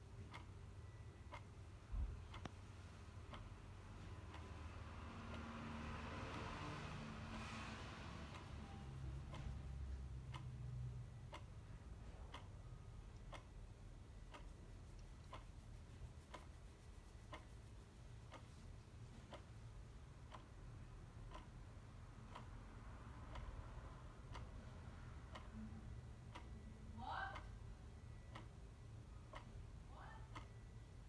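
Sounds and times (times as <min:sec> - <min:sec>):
clock ticking: 0:00.0 - 0:31.0
low steady rumble: 0:00.0 - 0:31.0.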